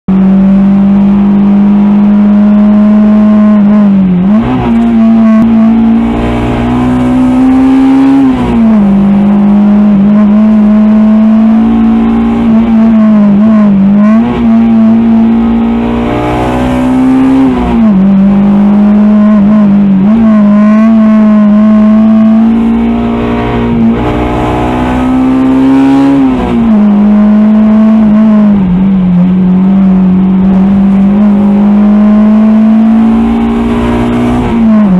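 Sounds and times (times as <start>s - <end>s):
car engine at high revs: 0.1s - 34.9s.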